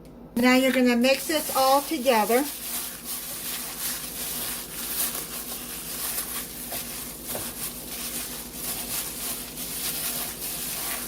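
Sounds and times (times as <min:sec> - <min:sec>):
soft mixing in a bowl: 0:00.4 - 0:11.0.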